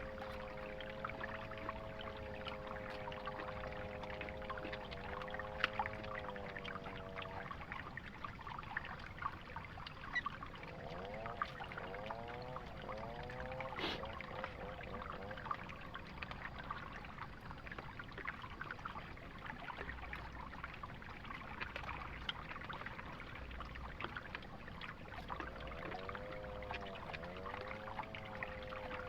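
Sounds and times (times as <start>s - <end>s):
flowing river water: 0.0s - 29.0s.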